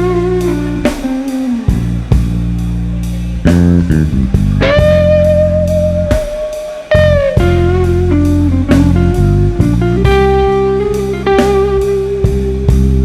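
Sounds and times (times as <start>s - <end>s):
bass guitar: 0.0s - 13.0s
drum kit: 0.0s - 13.0s
guitar melody: 0.0s - 13.0s.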